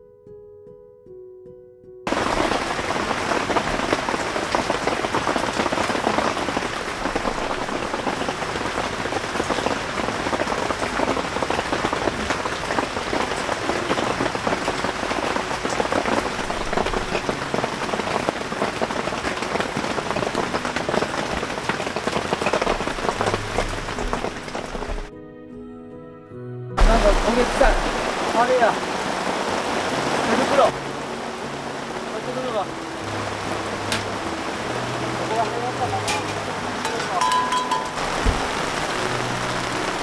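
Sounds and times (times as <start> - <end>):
heavy rain: 2.1 - 25.1, 26.8 - 40.0.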